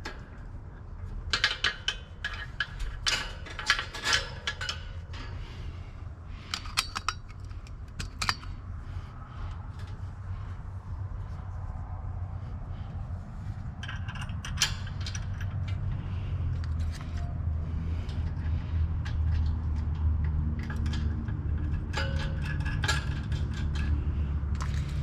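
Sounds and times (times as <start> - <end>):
steady low rumble: 0.0 - 25.0
wire basket clinking and scraping: 1.3 - 11.5, 13.6 - 25.0.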